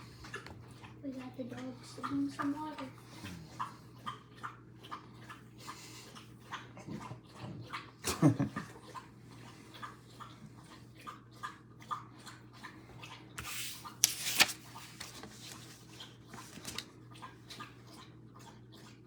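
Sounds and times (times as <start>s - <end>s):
dog lapping water: 0.0s - 14.0s, 15.6s - 19.0s.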